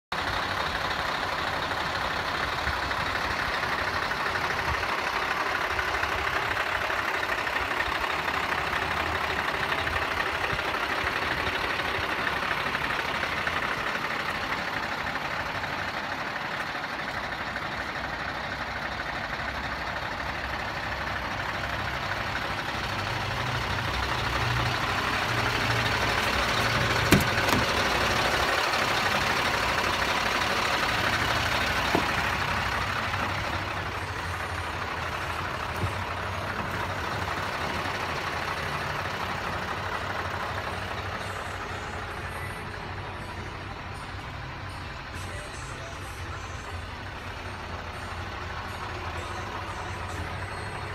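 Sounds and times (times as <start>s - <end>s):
truck diesel engine idling: 0.1s - 50.9s.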